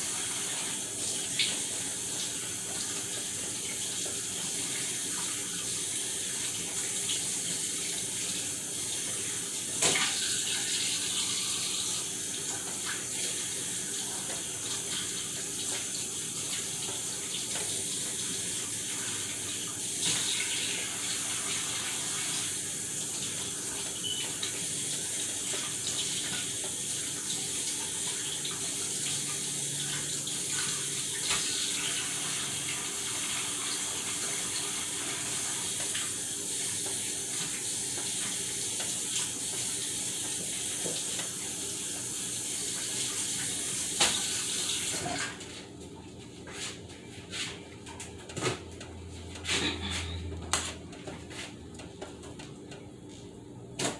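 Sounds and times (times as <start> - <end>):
faucet running into sink: 0.0 - 45.4.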